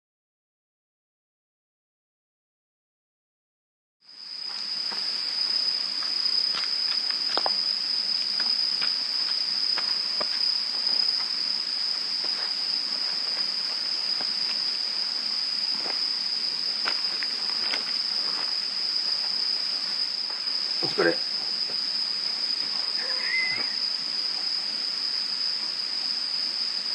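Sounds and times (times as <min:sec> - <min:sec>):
insects trilling: 0:04.0 - 0:26.9.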